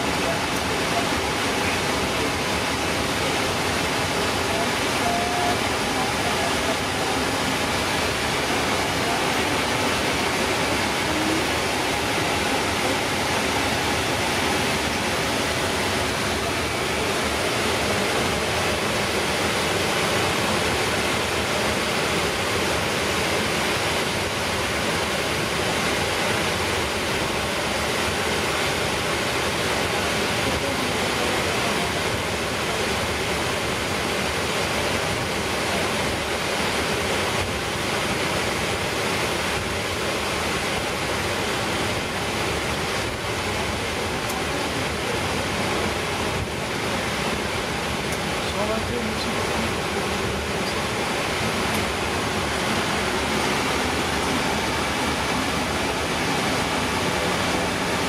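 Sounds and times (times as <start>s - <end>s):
idling jet engines hum: 0.0s - 58.0s
ventilation airflow: 0.0s - 58.0s.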